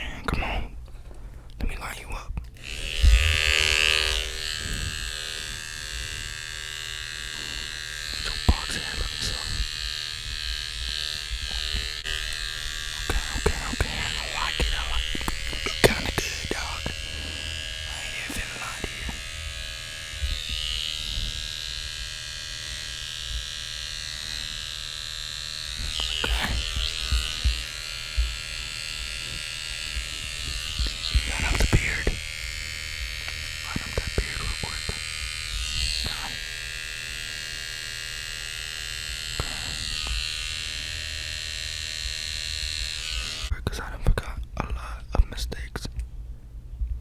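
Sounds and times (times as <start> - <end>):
electric hair clippers buzzing: 2.6 - 43.5.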